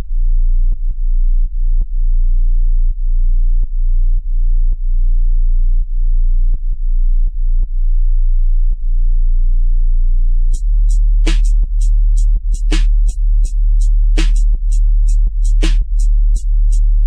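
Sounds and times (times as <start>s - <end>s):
deep bass tone from subwoofers: 0.0s - 17.0s.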